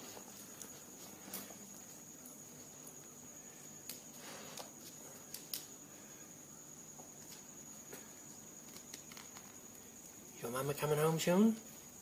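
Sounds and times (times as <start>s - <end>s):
steady high-pitched whine: 0.0s - 12.0s.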